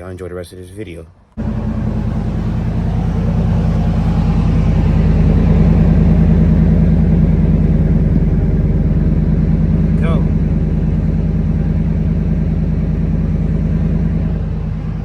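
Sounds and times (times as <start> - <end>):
truck engine idling: 1.4 - 15.0.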